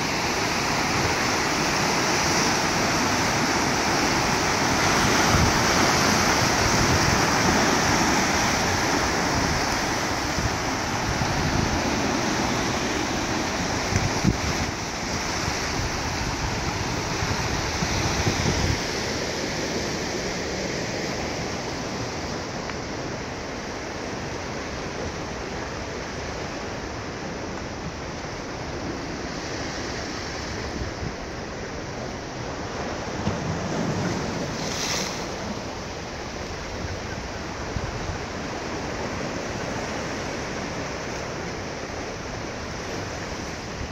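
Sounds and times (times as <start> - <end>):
wind rumbling on microphone: 0.0 - 43.9.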